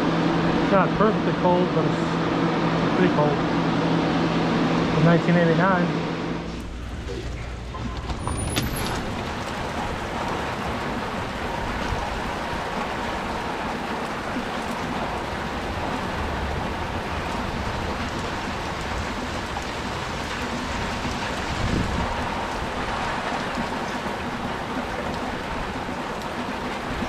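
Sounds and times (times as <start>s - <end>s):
air conditioner fan rush: 0.0s - 27.0s.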